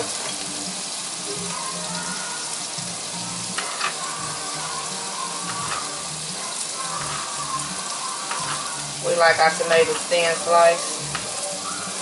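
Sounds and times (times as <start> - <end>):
burger patties sizzling in a frying pan: 0.0 - 12.0.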